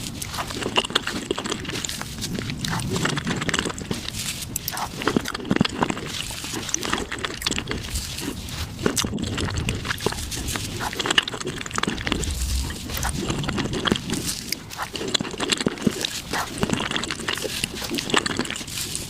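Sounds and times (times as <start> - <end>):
fast wet chewing and mouth smacks: 0.0 - 19.0.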